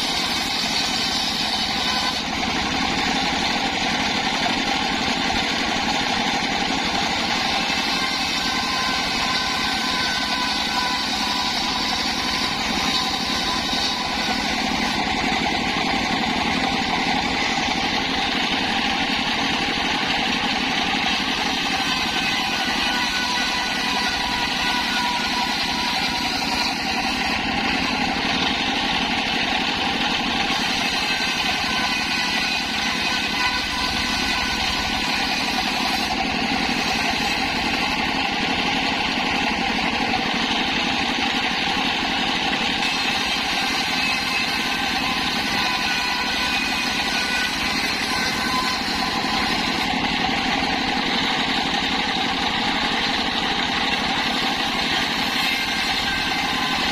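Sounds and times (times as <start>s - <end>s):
engine-driven circular saw: 0.0s - 56.9s.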